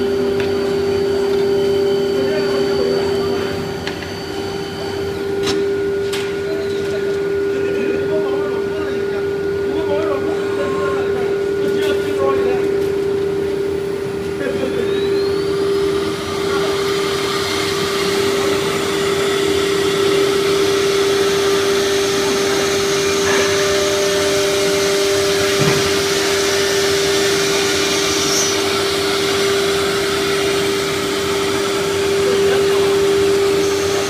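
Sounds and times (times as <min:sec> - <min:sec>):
router spindle whining: 0:00.0 - 0:34.0.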